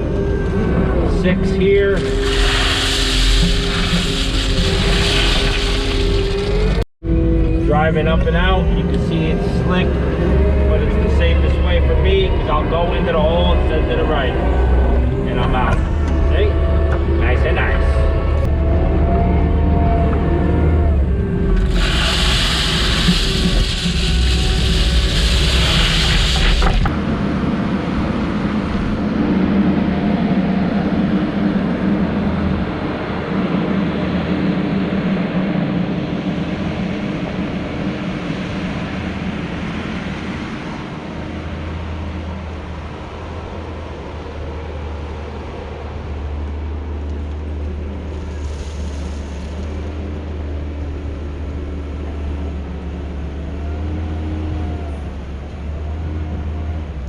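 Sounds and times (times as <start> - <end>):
loader diesel engine under load: 0.0 - 57.0.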